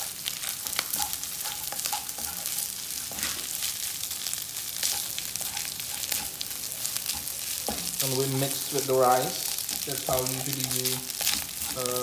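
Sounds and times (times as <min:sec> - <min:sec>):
rice and egg sizzling in pan: 0:00.0 - 0:12.0
spatula scraping and tapping pan: 0:00.5 - 0:03.7, 0:04.8 - 0:12.0.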